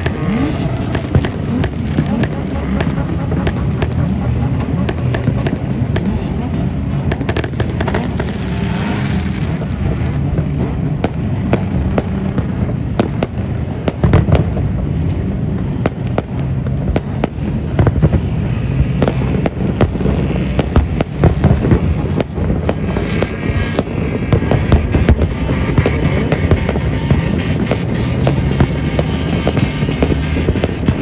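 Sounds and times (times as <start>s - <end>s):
continuous low rumble: 0.0s - 31.0s
firework bangs and pops: 0.0s - 31.0s.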